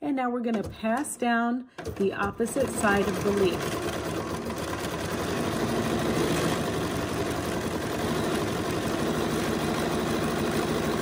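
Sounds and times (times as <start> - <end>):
sewing machine running: 1.8 - 11.0.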